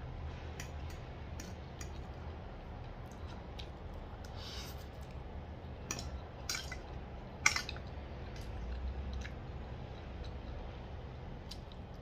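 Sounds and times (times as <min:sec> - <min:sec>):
soft chewing: 0:00.6 - 0:12.0.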